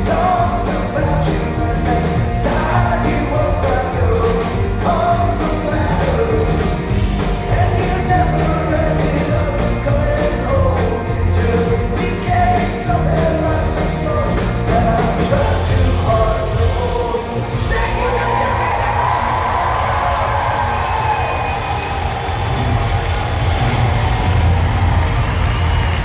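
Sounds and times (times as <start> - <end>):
lead vocal singing: 0.0 - 22.2
live rock band playing: 0.0 - 26.0.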